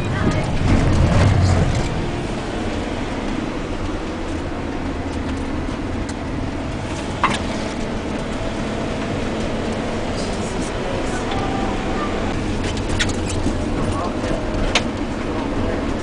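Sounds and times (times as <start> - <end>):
vehicle rumble and road noise: 0.0 - 16.0.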